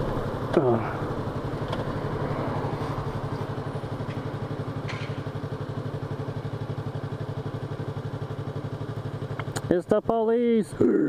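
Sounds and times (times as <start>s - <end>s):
motorcycle engine running at low revs: 0.0s - 11.0s.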